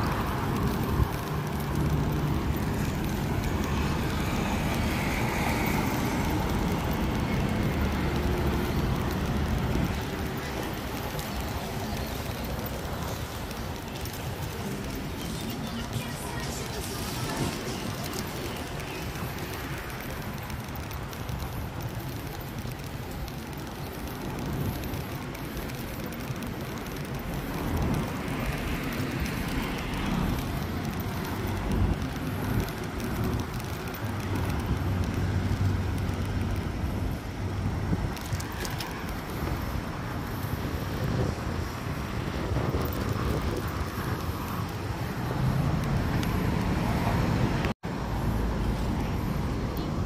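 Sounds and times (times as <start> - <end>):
passing traffic rumble: 0.0 - 50.0
wind rushing over microphone: 0.0 - 50.0.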